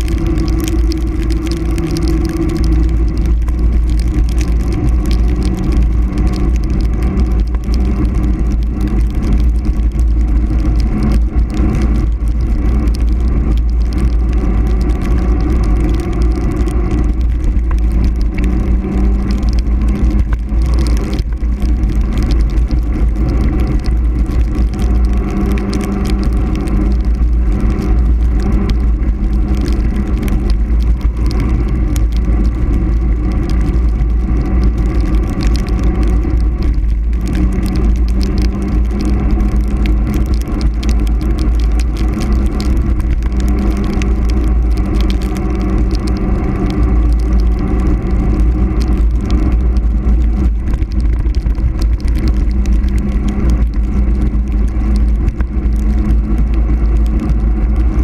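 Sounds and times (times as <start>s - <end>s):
bicycle tyre roar on pavement: 0.0s - 58.0s
small rattles and ticks: 0.0s - 58.0s
steady low hum: 0.0s - 58.0s.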